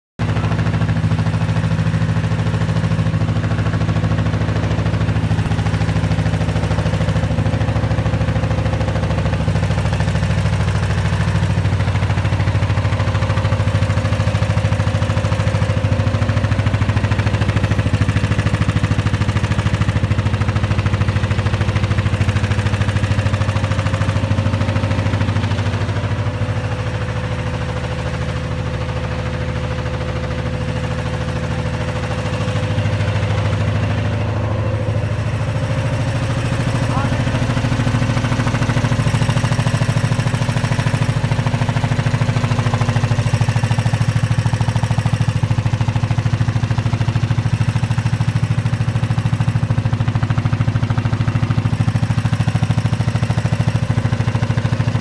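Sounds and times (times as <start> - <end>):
low machine hum: 0.2 - 55.0.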